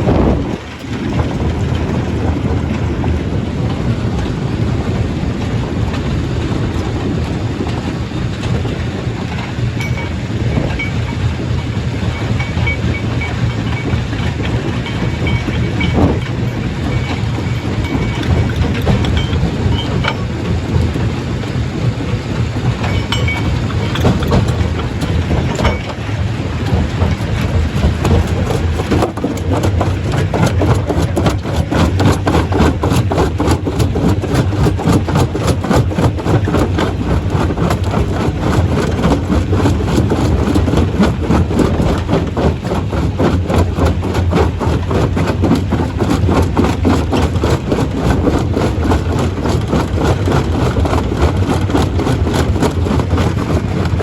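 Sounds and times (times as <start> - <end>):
stone crusher rumbling and rattling: 0.0 - 54.0.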